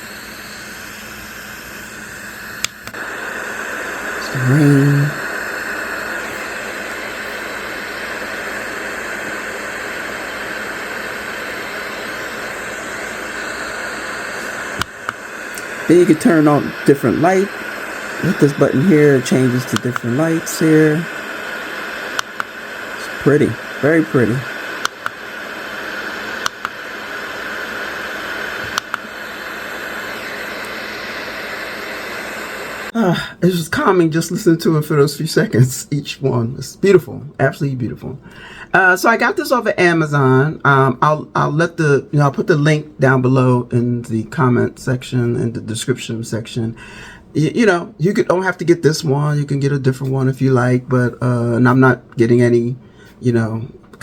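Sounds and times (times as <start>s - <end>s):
sound machine white noise hiss: 0.0s - 54.0s.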